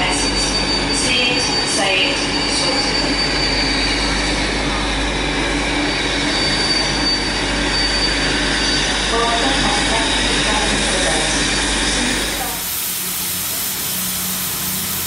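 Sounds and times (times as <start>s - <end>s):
steam locomotive rumble and hiss: 0.0s - 15.0s.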